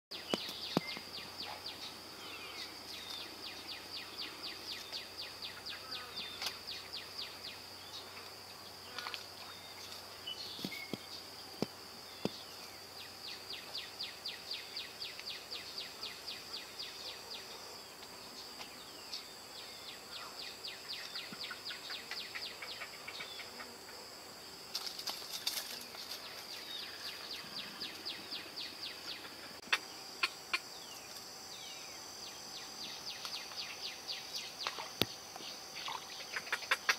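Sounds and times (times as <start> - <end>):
high-pitched insect buzz: 0.2 - 36.9
pulsing insect chirps: 0.2 - 36.9.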